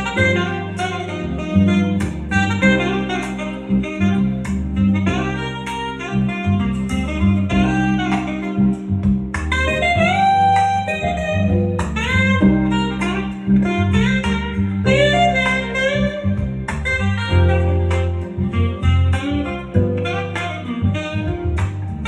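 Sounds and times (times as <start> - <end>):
bass line: 0.0 - 22.0
saxophone melody: 0.0 - 22.0.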